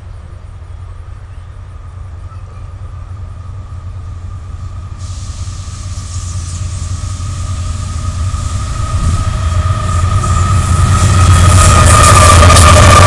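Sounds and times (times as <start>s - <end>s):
locomotive engine rumble: 0.0s - 13.0s.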